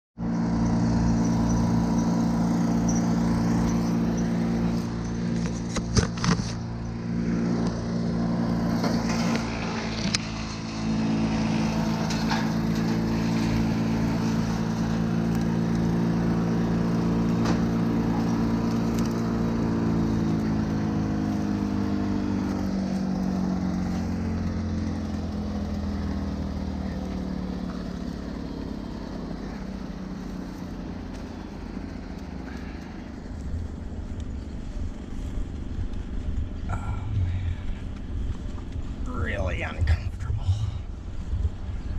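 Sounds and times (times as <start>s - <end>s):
large engine running: 0.2s - 41.9s.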